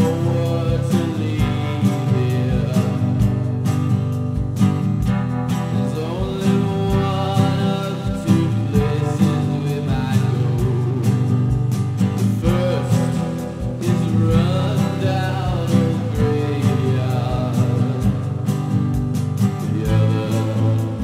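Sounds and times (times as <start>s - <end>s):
guitar: 0.0s - 21.0s
steady drum beat: 0.0s - 21.0s.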